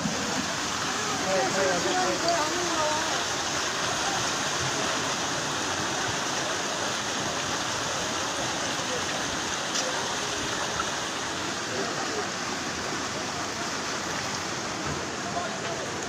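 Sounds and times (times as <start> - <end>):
faint voices: 0.0 - 16.0
floodwater rushing: 0.0 - 16.0.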